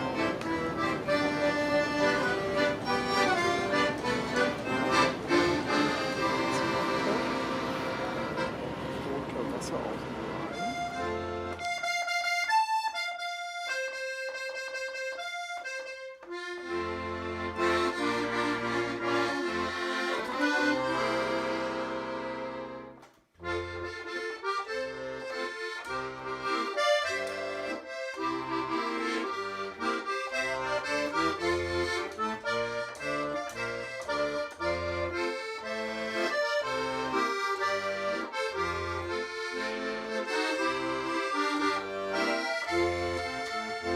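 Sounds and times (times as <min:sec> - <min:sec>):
accordion tune: 0:00.0 - 0:43.9.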